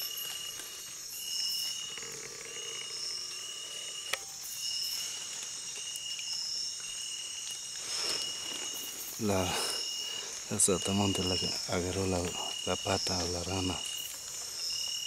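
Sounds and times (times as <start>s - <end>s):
crickets trilling: 0.0s - 15.0s
high insect hiss: 0.0s - 15.0s.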